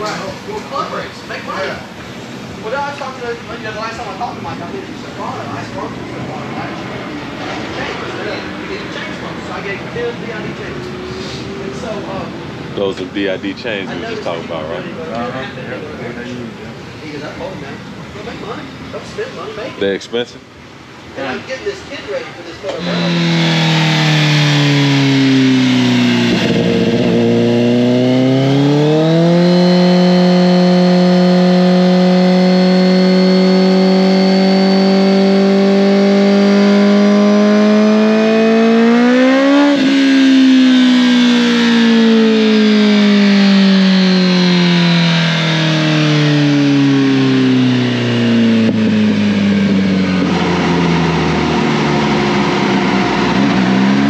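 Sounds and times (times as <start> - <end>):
motorcycle engine revving: 0.0 - 14.4, 22.7 - 54.0.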